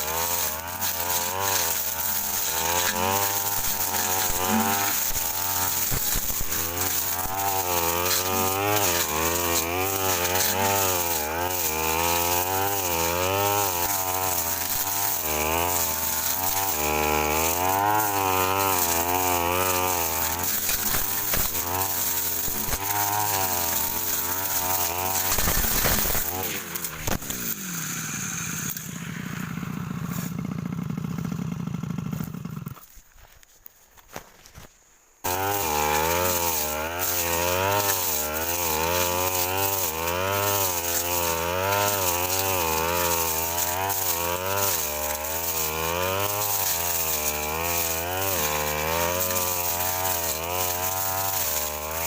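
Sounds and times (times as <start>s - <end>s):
brush cutter engine: 0.0s - 52.0s.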